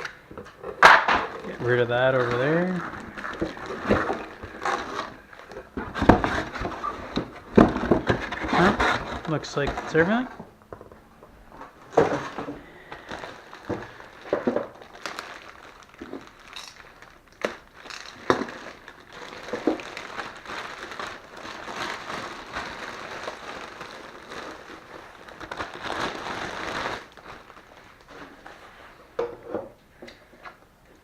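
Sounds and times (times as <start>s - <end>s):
packaging crinkling and rustling: 0.0s - 29.0s.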